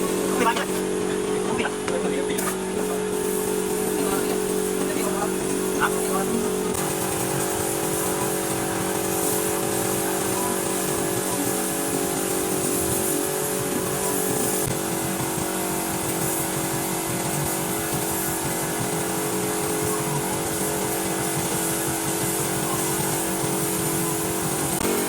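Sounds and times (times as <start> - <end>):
motor humming with high hiss: 0.0 - 25.0.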